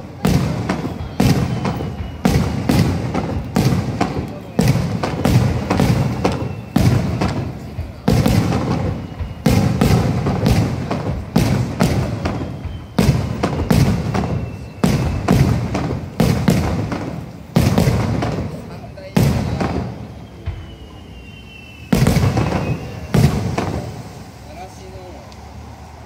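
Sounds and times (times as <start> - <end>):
firework shells bursting: 0.0 - 25.4.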